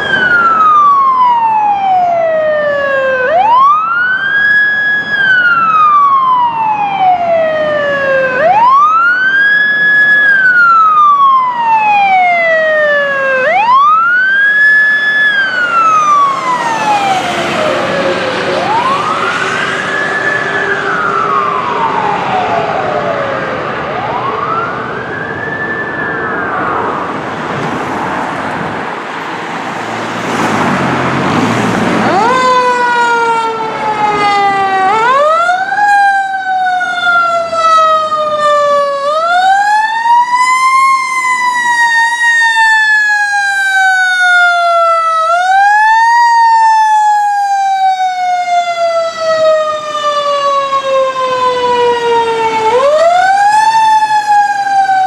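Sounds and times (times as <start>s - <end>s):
faint siren: 0.0s - 55.0s
fire engine siren wailing: 0.0s - 55.0s
traffic noise: 0.0s - 55.0s.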